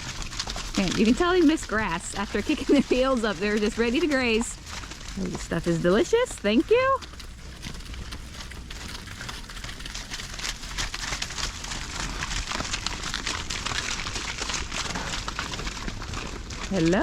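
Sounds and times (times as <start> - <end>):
cows tearing and chewing grass: 0.0 - 17.0.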